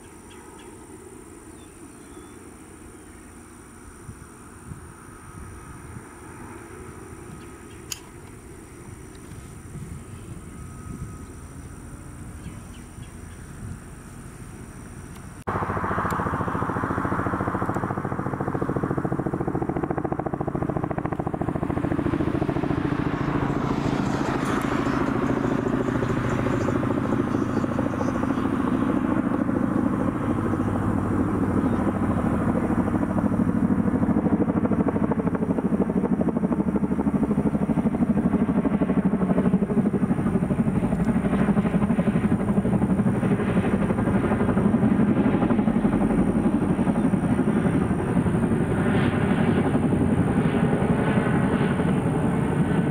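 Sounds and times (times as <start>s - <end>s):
helicopter rotor blades beating: 0.0s - 52.9s.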